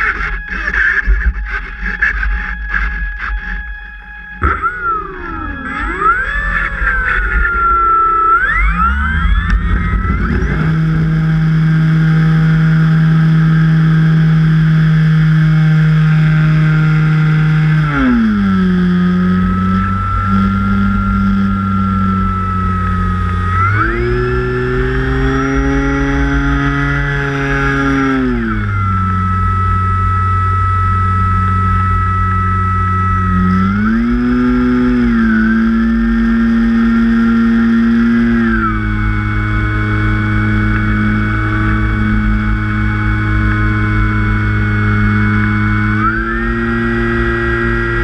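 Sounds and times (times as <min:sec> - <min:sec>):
electric motor and propeller whine: 0:00.0 - 0:48.0.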